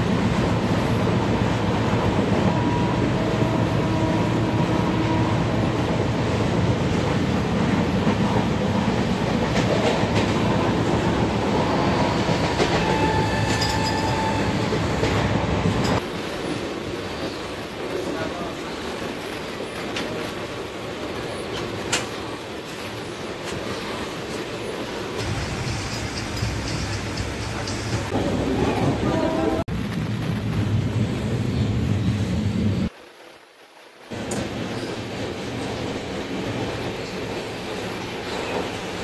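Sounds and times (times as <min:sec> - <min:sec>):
train coach rumbling on track: 0:00.0 - 0:32.9, 0:34.1 - 0:39.0.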